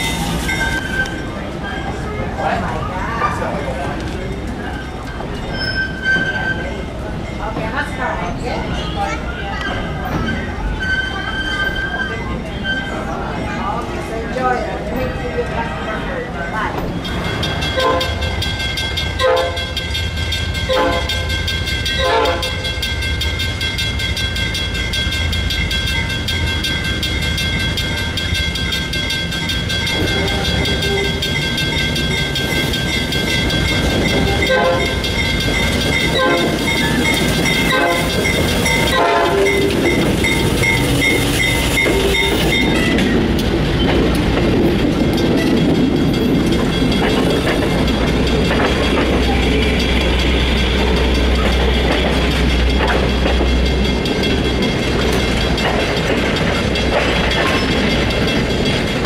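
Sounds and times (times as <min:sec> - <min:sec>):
crossing bell ringing: 0:00.0 - 0:02.7, 0:04.0 - 0:59.0
train wheels rumbling on rails: 0:00.0 - 0:59.0.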